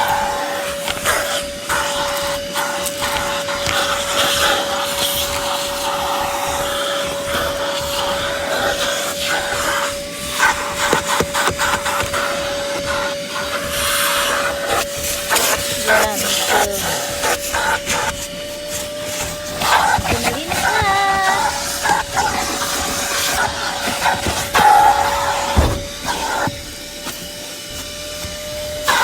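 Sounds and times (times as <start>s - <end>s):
vacuum whine and suction: 0.0s - 29.0s.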